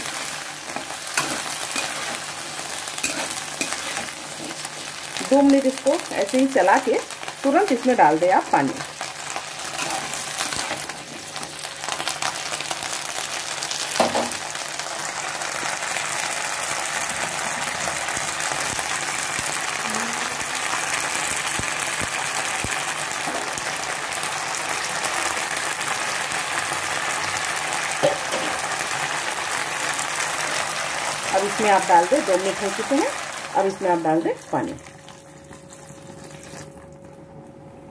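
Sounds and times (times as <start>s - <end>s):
fruit sizzling in hot oil: 0.0s - 36.8s.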